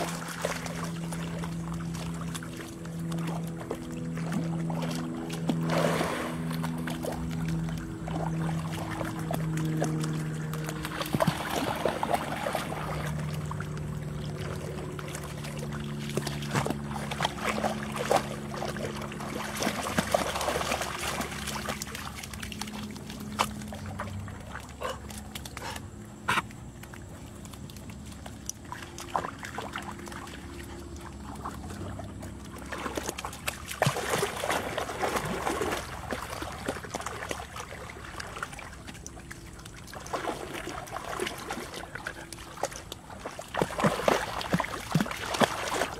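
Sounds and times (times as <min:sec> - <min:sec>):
dogs splashing through water: 0:00.0 - 0:45.9.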